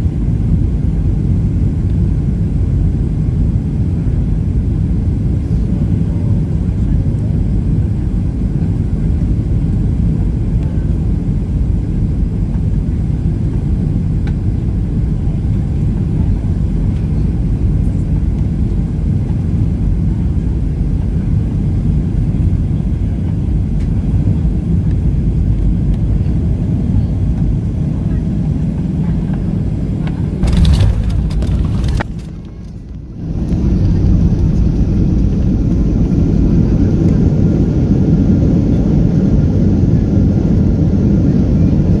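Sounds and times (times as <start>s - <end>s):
jet engine cabin rumble: 0.0s - 42.0s.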